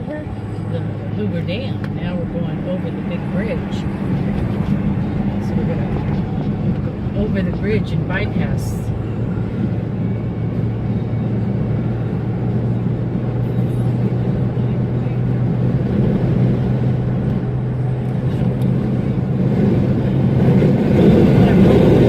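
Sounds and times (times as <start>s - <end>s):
car engine and tyre drone: 0.0s - 22.0s.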